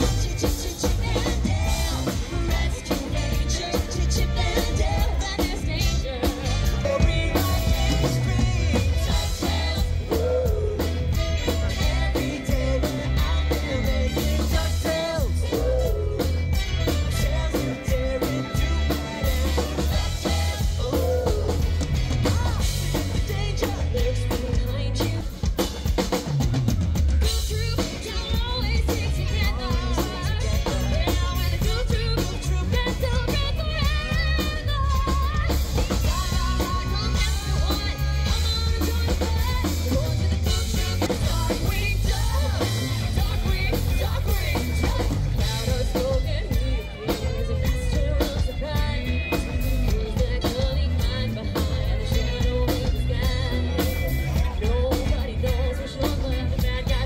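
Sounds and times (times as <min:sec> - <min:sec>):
woman singing: 0:00.0 - 0:26.1, 0:27.2 - 0:57.0
drum kit: 0:00.0 - 0:57.0
live band playing: 0:00.0 - 0:57.0.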